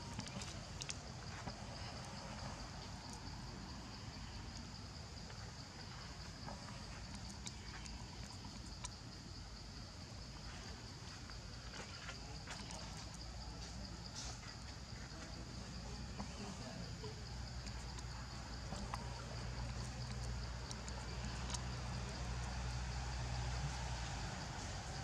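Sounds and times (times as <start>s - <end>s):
insects chirring: 0.0s - 25.0s
low background rumble: 0.0s - 25.0s.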